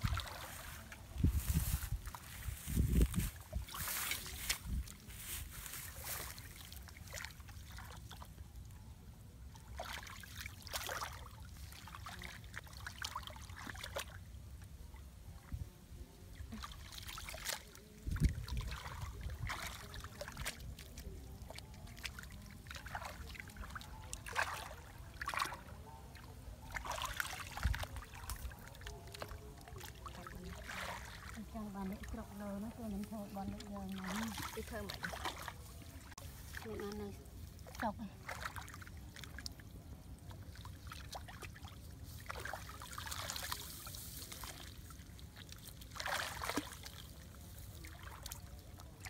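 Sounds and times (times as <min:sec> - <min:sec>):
splashing in muddy water: 0:00.0 - 0:08.4, 0:09.5 - 0:14.3, 0:16.4 - 0:49.0.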